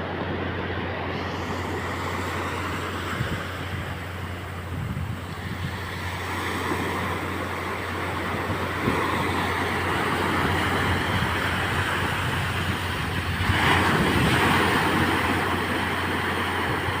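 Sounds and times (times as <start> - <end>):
sea surf rushing: 0.0 - 17.0
wave breaking: 0.0 - 17.0.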